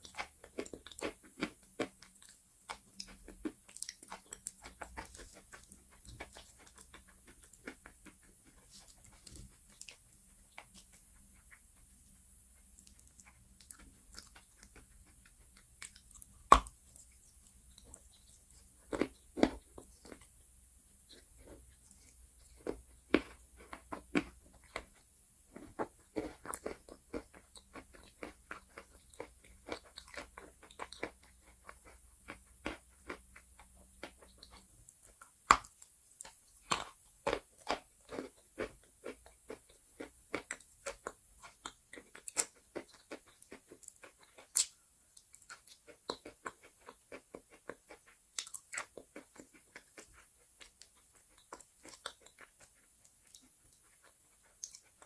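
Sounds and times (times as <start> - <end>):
crunching and chewing chalk: 0.0 - 55.0.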